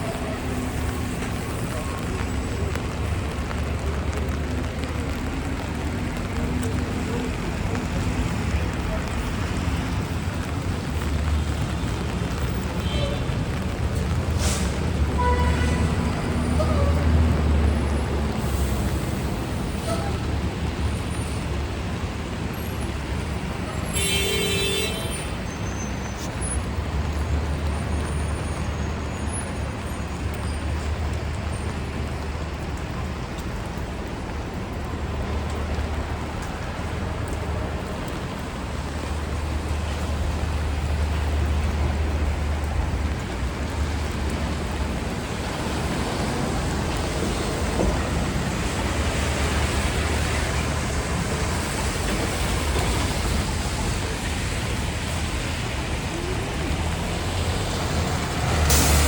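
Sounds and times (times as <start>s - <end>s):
passing vehicles rumble: 0.0s - 59.0s.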